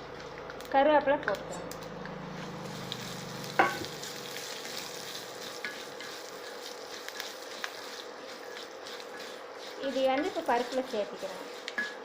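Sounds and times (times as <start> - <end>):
spices sizzling in hot fat: 0.0 - 12.0.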